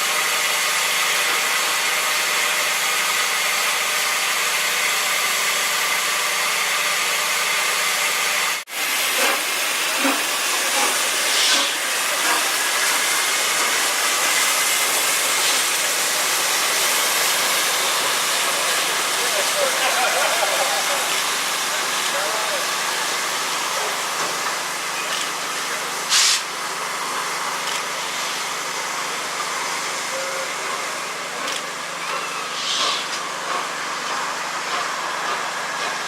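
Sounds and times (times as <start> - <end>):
steam hissing from locomotive: 0.0 - 36.0.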